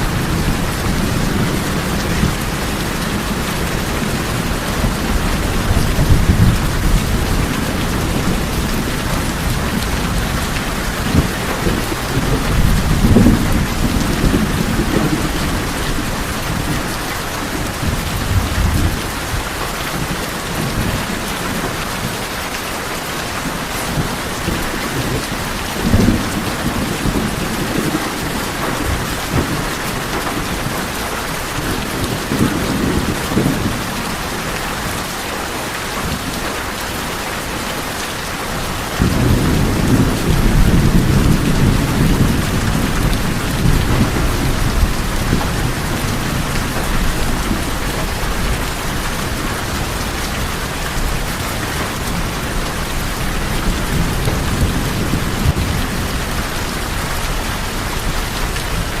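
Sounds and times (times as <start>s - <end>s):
low thunder rumbling: 0.0s - 22.3s, 23.5s - 35.0s, 38.5s - 59.0s
rain on a tin roof: 0.0s - 59.0s.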